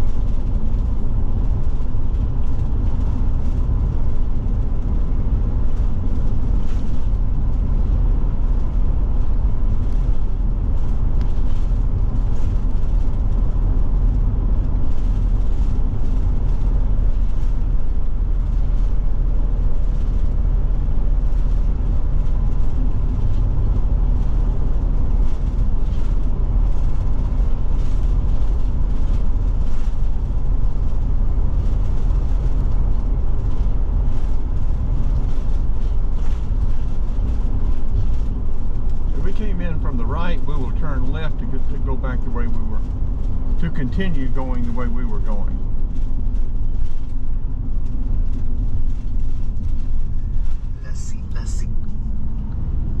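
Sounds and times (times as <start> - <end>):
engine and road rumble: 0.0 - 53.0.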